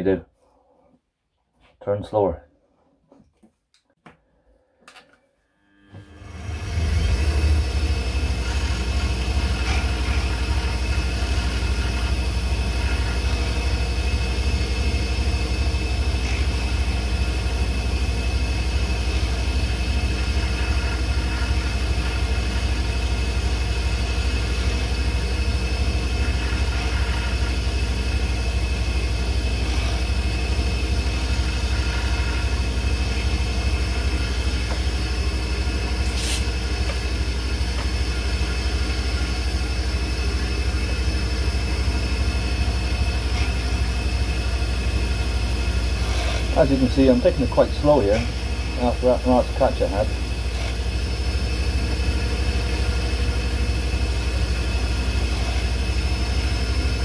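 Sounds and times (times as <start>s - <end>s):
lathe motor hum: 5.6s - 57.0s
turning tool cutting: 5.8s - 57.0s.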